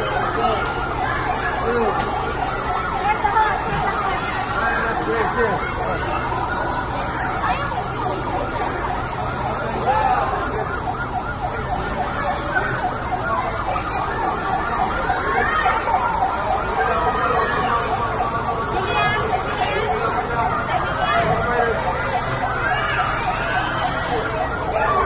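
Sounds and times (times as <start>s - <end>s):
fire engine siren yelping: 0.0s - 25.0s.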